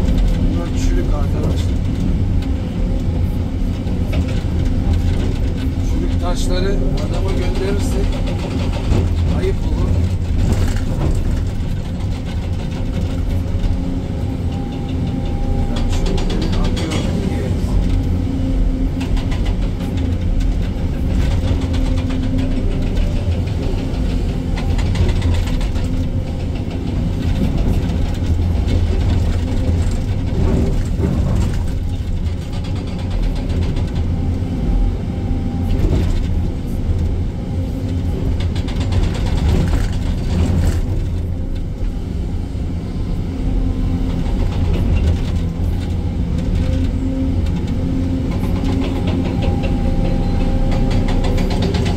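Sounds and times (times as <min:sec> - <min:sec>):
excavator diesel engine running: 0:00.0 - 0:51.9
metal knocks and clanks: 0:03.8 - 0:34.3, 0:37.9 - 0:42.0, 0:44.0 - 0:51.9.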